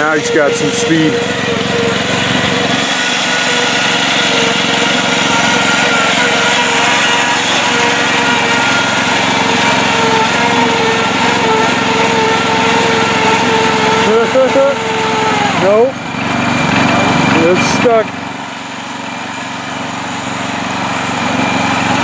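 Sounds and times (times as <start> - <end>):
transmission whine: 0.0 - 18.4
lawn tractor engine running: 0.0 - 22.0.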